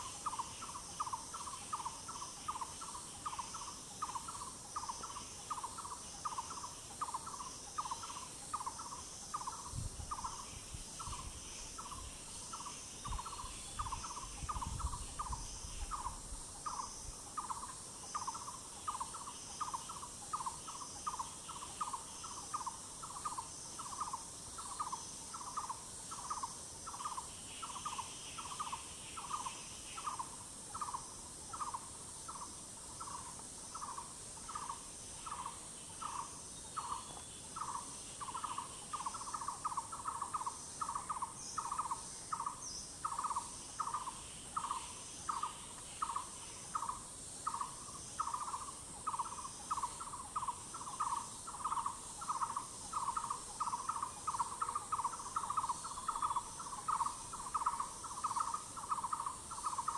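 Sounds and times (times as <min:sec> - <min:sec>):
forest bird calling: 0:00.0 - 0:59.9
high insect drone: 0:00.0 - 0:59.9.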